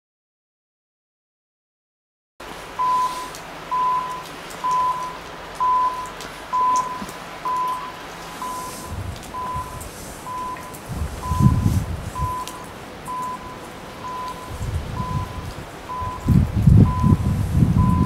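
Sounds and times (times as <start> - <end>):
low rumbling: 2.4 - 18.0
level crossing signal beeping: 2.8 - 18.0.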